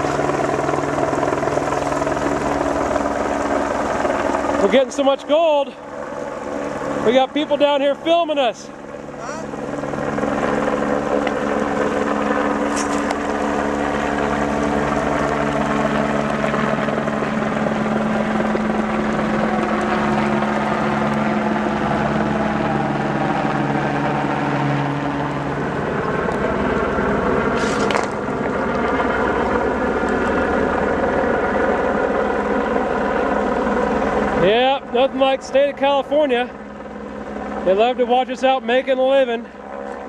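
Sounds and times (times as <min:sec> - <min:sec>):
helicopter flying overhead: 0:00.0 - 0:40.0.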